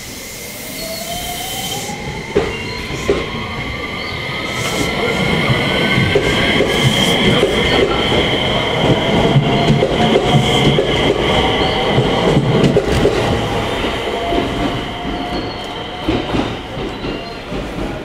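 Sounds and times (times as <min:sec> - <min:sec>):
wheels rumbling on rail: 0:01.8 - 0:18.0.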